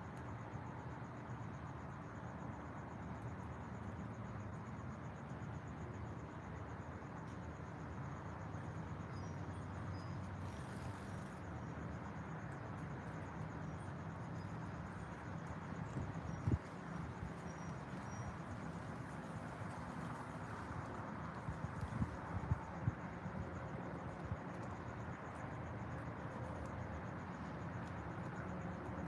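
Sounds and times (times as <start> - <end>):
insect chirping: 0.3 - 29.0.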